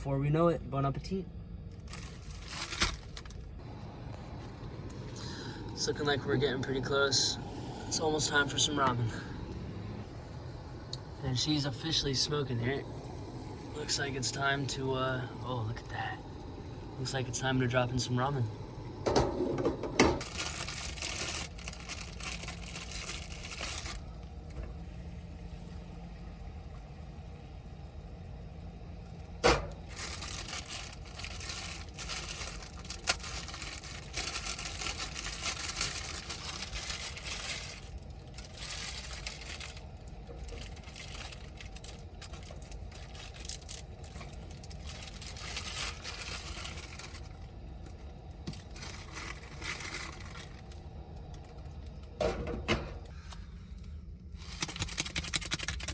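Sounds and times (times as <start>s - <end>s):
water boiling: 3.6s - 53.1s
gas stove hissing: 3.6s - 53.6s.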